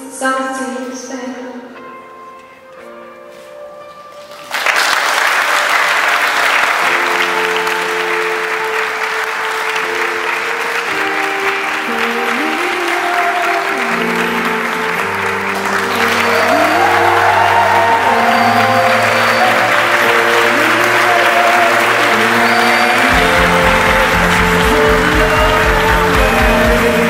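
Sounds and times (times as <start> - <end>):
music with held notes: 0.0 - 27.0
crowd applauding: 4.3 - 27.0.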